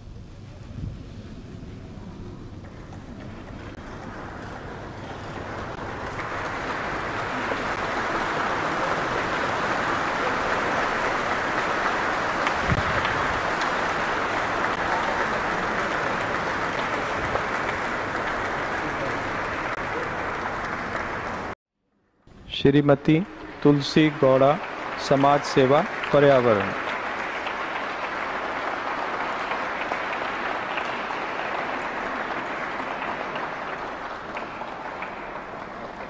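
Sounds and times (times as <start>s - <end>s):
audience applauding: 2.6s - 21.6s, 23.0s - 36.0s.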